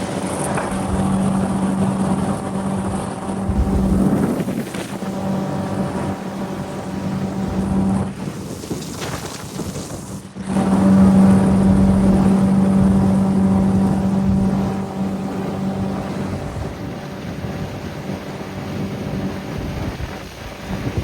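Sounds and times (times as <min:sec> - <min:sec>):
boat motor humming: 0:00.0 - 0:08.3, 0:10.4 - 0:20.9.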